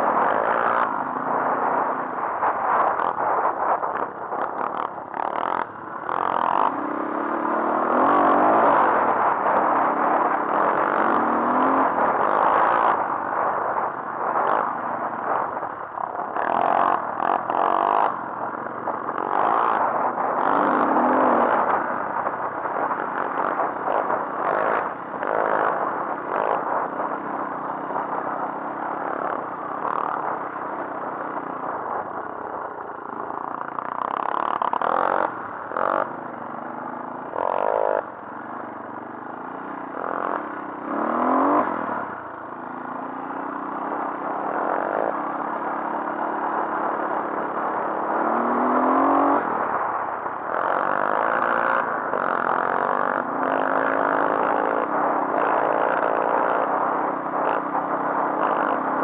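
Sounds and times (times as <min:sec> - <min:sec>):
dirt bike engine revving: 0:00.0 - 0:15.4, 0:16.0 - 0:18.2, 0:18.9 - 0:31.4, 0:32.4 - 0:38.5, 0:39.3 - 0:49.8, 0:50.5 - 0:59.0.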